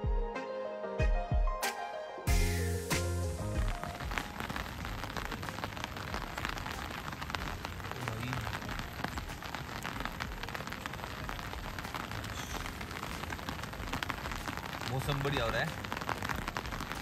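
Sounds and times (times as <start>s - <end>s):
raindrops striking close by: 2.3s - 17.0s
steady rain falling: 2.3s - 17.0s.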